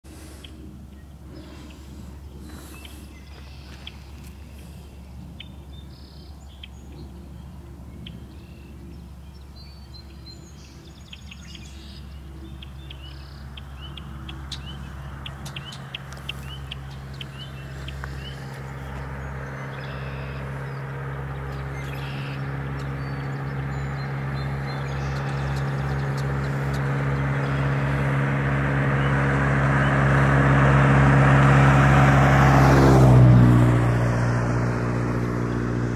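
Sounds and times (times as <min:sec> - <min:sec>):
vehicle engine approaching: 0:00.0 - 0:35.9
birds chirping: 0:00.1 - 0:33.0
low steady hum: 0:00.1 - 0:35.9.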